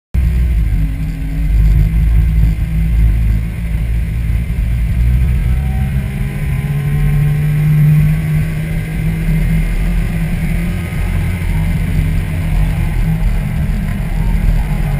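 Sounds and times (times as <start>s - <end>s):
car engine and tyre rumble: 0.1s - 14.9s
low hum: 0.2s - 14.9s.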